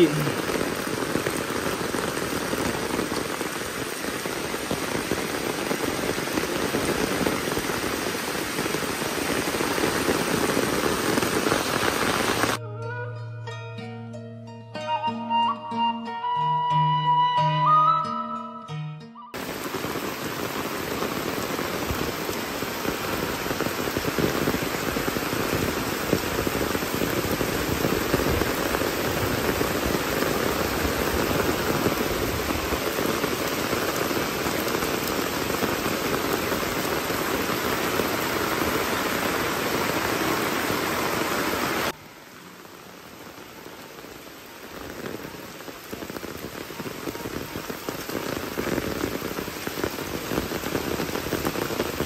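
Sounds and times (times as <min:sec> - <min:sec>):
heavy rain falling: 0:00.0 - 0:12.6, 0:19.4 - 0:52.0.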